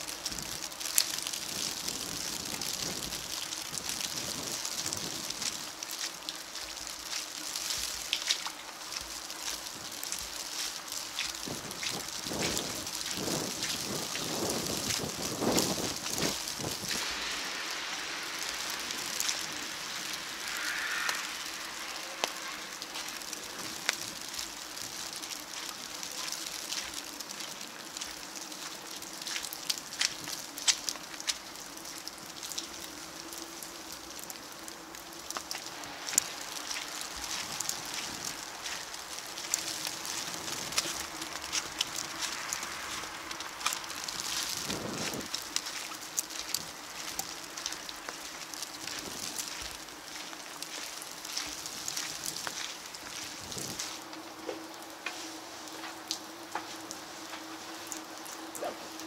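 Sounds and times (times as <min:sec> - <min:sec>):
sleet hissing on wet pavement: 0:00.0 - 0:59.0.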